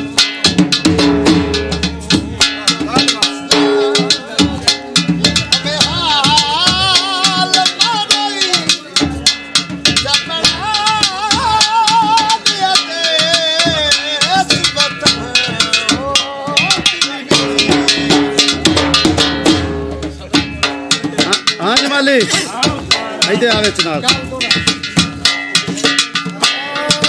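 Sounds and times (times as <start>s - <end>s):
fast dhol drumming: 0.0s - 27.0s.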